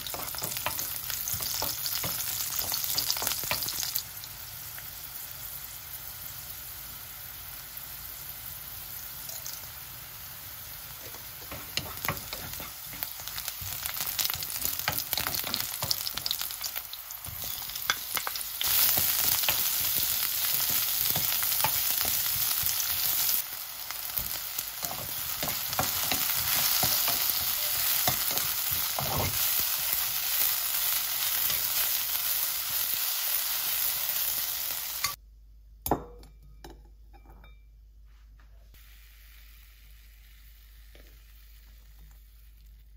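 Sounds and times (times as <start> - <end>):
garlic sizzling in oil: 0.0 - 35.2, 38.8 - 42.9.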